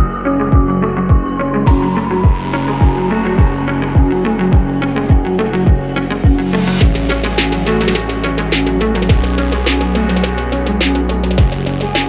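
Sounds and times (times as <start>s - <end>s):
electronic music with deep beat: 0.0s - 12.0s.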